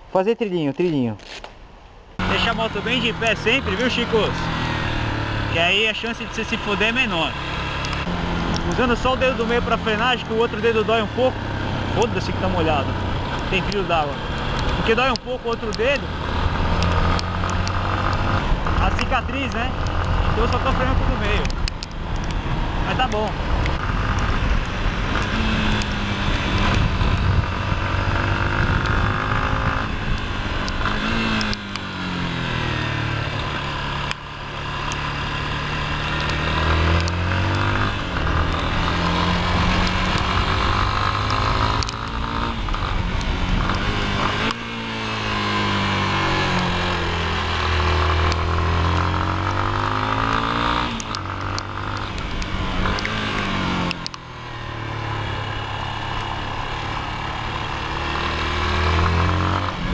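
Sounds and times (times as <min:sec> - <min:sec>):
motorcycle engine revving: 0:02.2 - 0:59.9.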